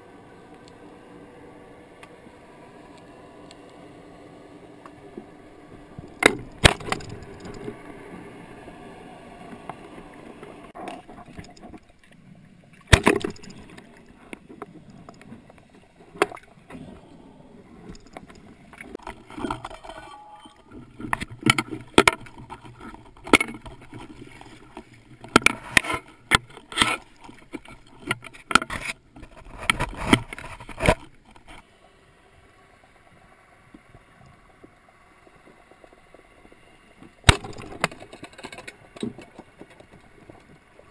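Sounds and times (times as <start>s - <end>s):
low rumble of water: 0.0s - 40.9s.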